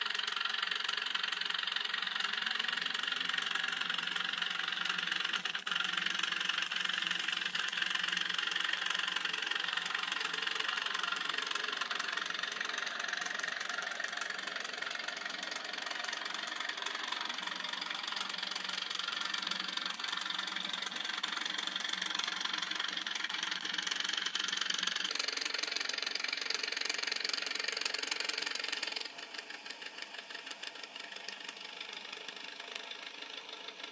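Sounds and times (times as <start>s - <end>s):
engine running with knocking beat: 0.0s - 33.9s.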